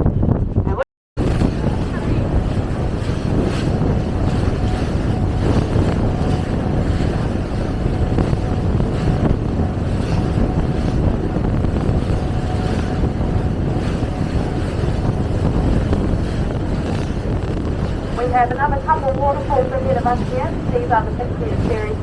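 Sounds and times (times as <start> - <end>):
boat engine rumbling: 0.0 - 22.0
wind buffeting microphone: 0.0 - 22.0.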